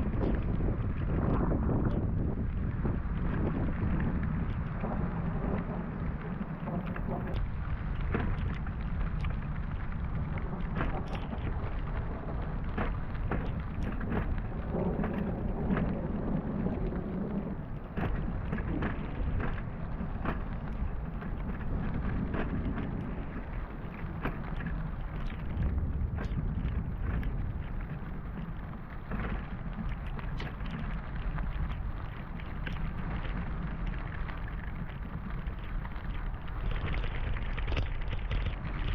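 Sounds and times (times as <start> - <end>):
heavy rain falling: 0.0 - 38.9
raindrops ticking close by: 0.0 - 38.9.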